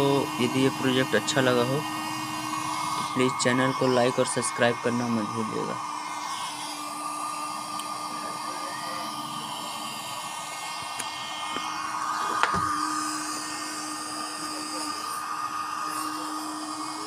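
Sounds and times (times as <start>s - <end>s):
hair dryer fan whine: 0.0s - 17.0s.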